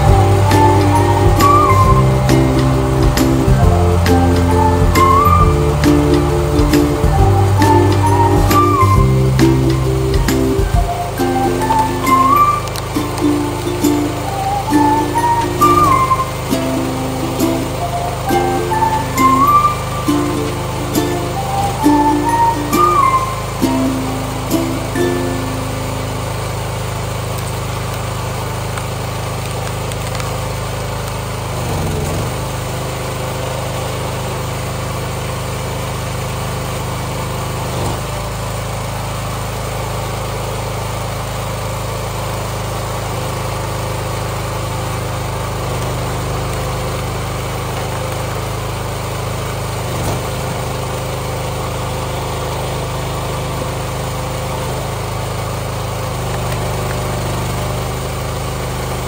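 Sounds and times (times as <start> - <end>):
small gas engine running: 0.0 - 59.0.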